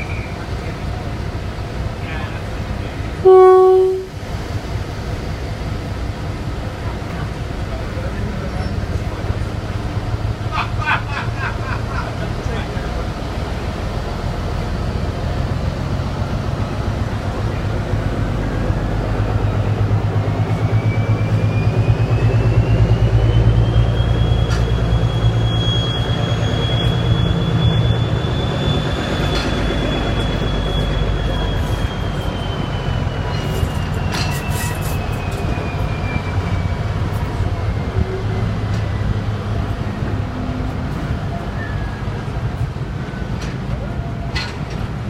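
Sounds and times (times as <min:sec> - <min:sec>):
diesel locomotive engine drone: 0:00.0 - 0:45.0.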